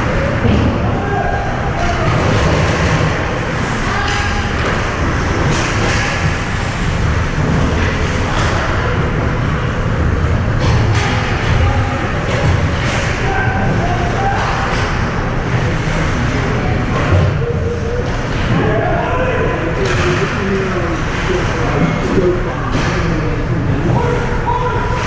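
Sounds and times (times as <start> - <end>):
faint murmur of voices: 0.0 - 25.0.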